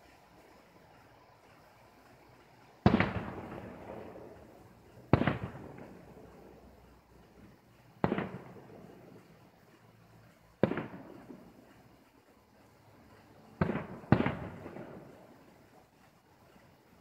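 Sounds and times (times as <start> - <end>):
firework shells bursting: 1.4 - 17.0.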